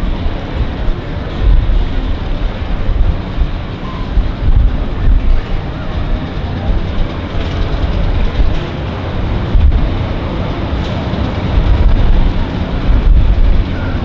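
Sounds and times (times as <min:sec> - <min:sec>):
distant radial engine drone: 0:00.0 - 0:14.0
wind buffeting microphone: 0:00.0 - 0:14.0.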